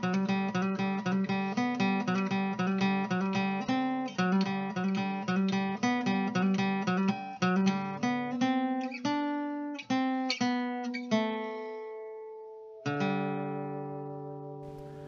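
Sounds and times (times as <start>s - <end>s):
acoustic guitar strumming: 0.0s - 11.6s, 12.8s - 15.0s.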